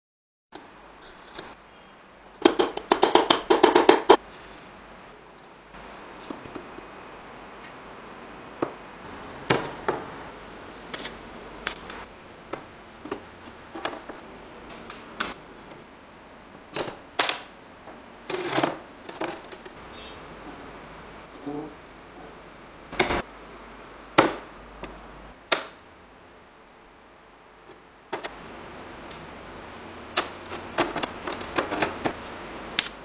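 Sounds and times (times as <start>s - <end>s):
steady low hiss: 0.6s - 33.0s.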